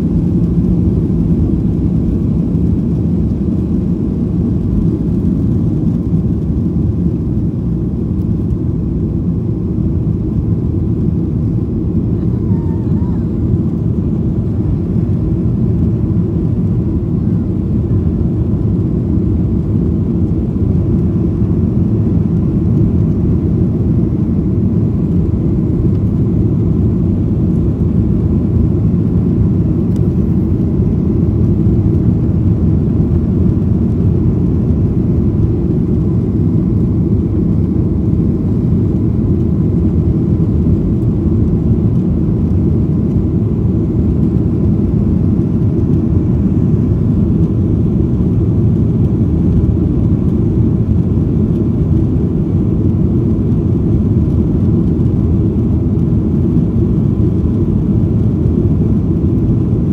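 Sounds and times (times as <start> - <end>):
jet engines and rushing air: 0.0 - 59.9.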